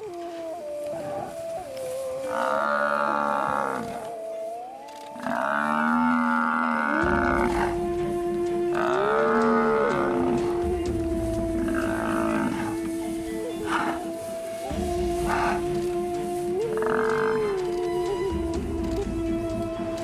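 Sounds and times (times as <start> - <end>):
dramatic background music: 0.0 - 20.0.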